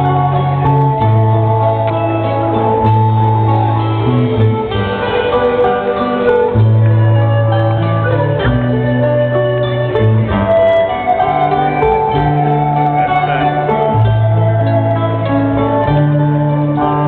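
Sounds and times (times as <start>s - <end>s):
long held bass notes: 0.0s - 17.0s
plucked strings: 0.0s - 17.0s.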